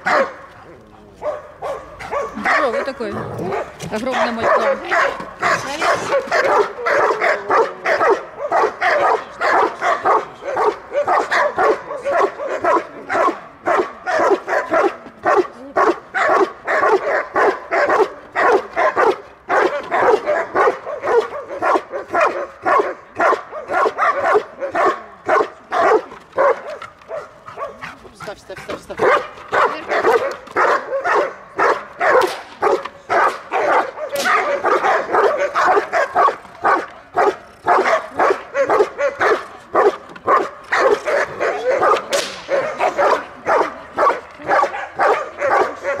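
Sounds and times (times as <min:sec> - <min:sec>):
dog barking rapidly: 0:00.0 - 0:00.4, 0:01.2 - 0:28.0, 0:28.9 - 0:46.0.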